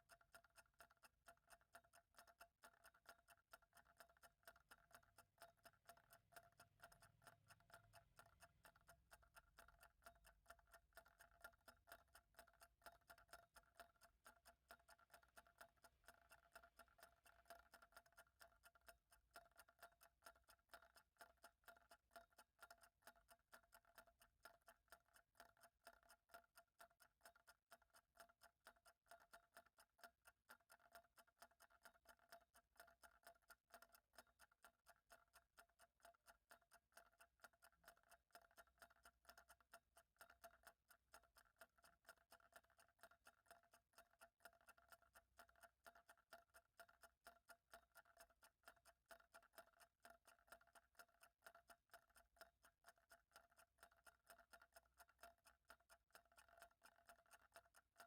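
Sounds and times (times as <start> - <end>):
faint clock ticking: 0.0 - 58.0.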